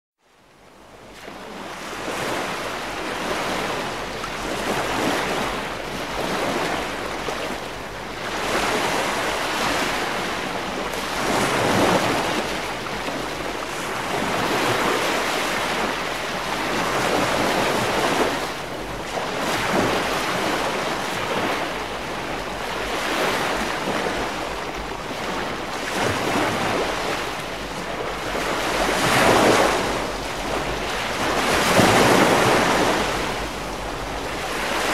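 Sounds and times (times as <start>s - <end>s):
ocean surf washing onto beach: 1.0s - 34.9s.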